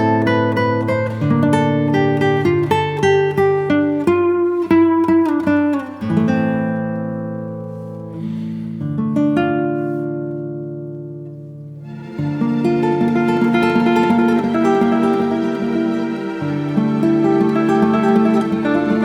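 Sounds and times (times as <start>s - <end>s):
guitar plucking a melody: 0.0s - 19.0s.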